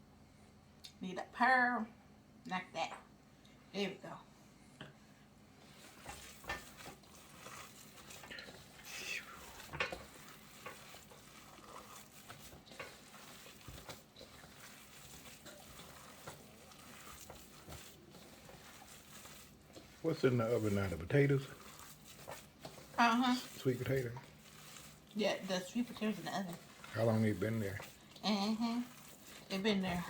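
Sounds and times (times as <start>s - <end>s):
spoon scraping food in a pot: 5.6s - 30.0s.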